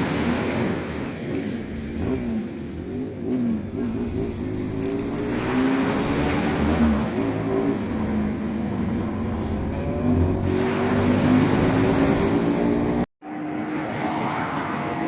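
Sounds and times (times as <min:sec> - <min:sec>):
vehicle engine accelerating: 0:00.2 - 0:15.0.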